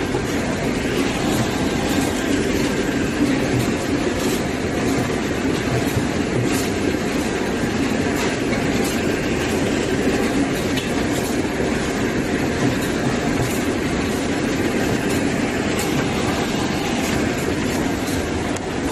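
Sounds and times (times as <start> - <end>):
packaging machine running: 0.0 - 18.9.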